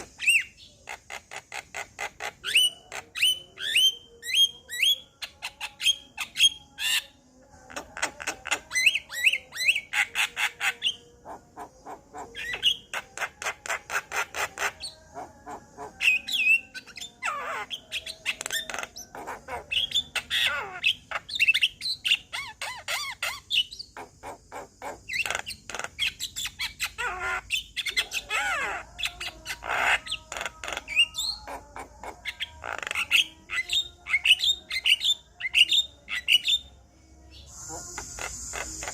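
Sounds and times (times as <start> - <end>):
myna bird singing: 0.0 - 38.9.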